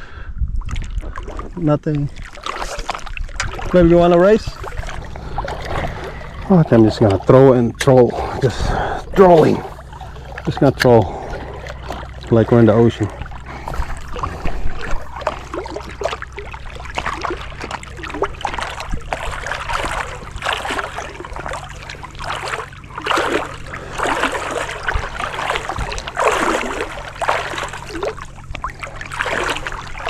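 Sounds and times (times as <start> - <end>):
water swishing around a boat: 0.0 - 30.0.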